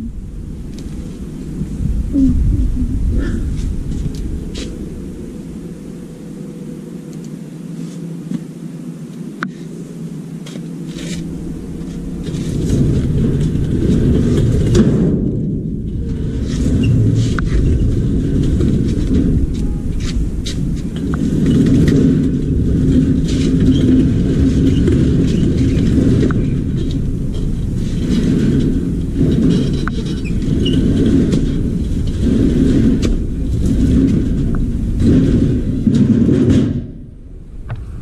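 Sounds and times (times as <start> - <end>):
hand truck wheels rolling on concrete: 0.0 - 8.5, 9.2 - 37.6.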